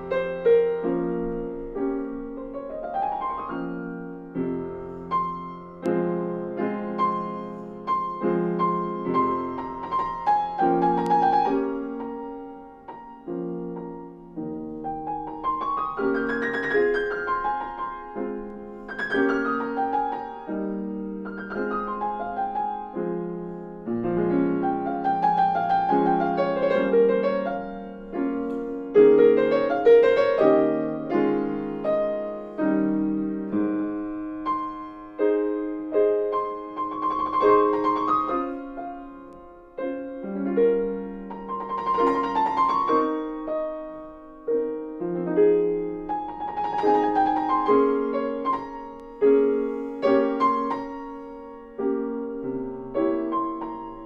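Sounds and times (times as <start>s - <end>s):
solo grand piano piece: 0.0s - 54.0s.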